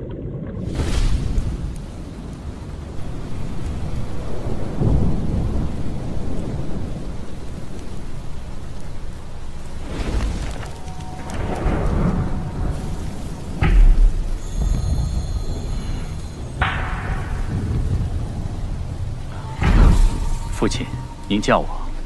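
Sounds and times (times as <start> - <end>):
deep fire rumbles: 0.0 - 22.0
fire rushing hiss: 0.7 - 22.0.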